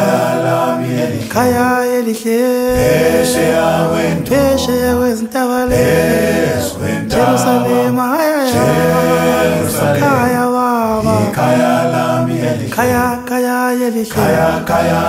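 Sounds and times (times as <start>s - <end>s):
voices singing a slow chant: 0.0s - 15.0s.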